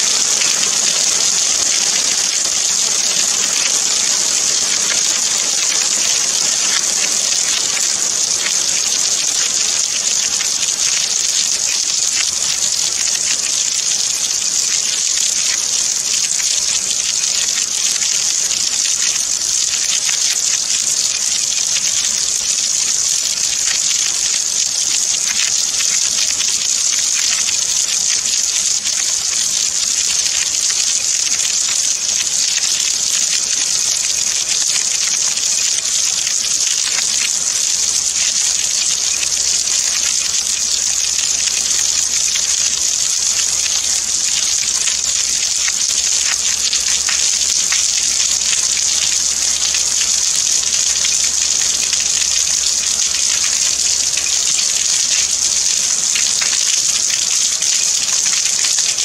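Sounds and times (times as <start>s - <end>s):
steady downpour of rain: 0.0s - 59.0s.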